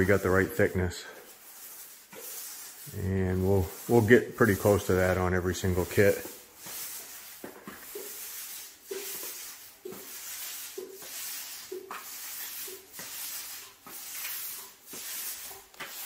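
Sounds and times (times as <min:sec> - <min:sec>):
paint roller rolling on floor: 0:00.0 - 0:16.0.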